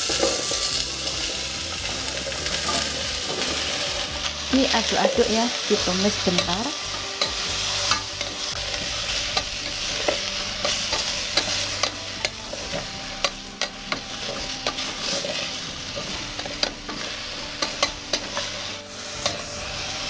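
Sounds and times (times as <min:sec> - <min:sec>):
vegetables sizzling in hot oil: 0:00.0 - 0:20.0
wooden spatula scraping a pot: 0:02.2 - 0:20.0.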